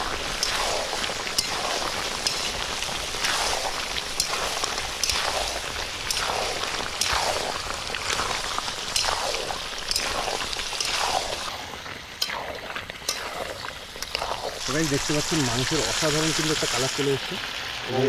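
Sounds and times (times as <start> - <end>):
meat sizzling in a pan: 0.0 - 18.0.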